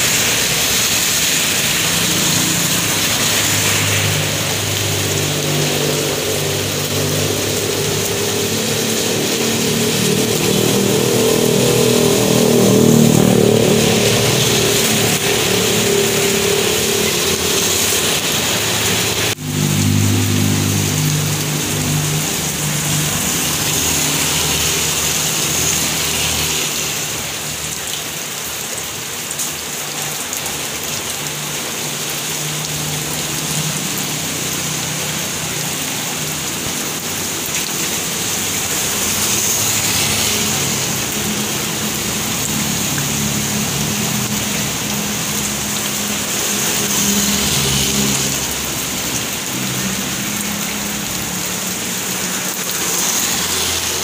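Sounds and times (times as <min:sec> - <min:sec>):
steady rain on street: 0:00.0 - 0:54.0
vehicles driving past: 0:00.0 - 0:54.0.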